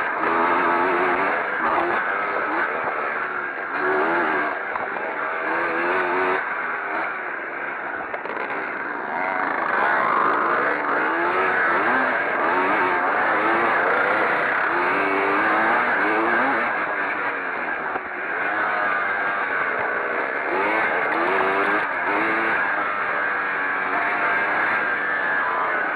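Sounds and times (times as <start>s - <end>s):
motorcycle engines revving: 0.0s - 25.9s.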